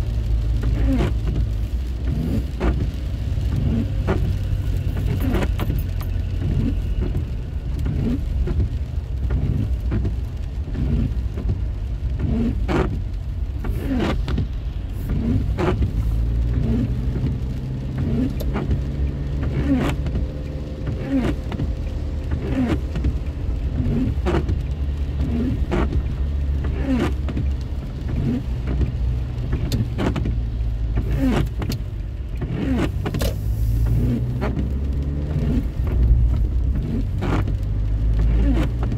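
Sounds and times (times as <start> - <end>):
engine and tyre rumble: 0.0 - 38.9.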